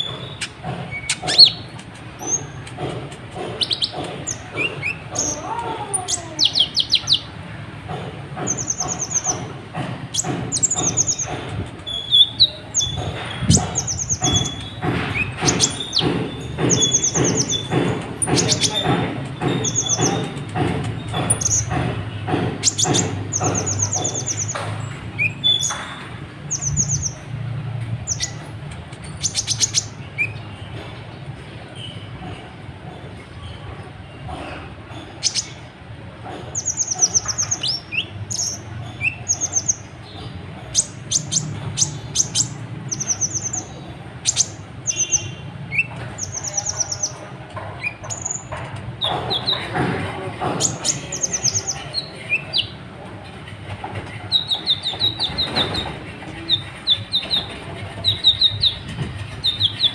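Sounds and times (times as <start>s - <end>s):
bird sharp chips: 0.0s - 27.3s, 28.0s - 32.4s, 36.4s - 59.9s.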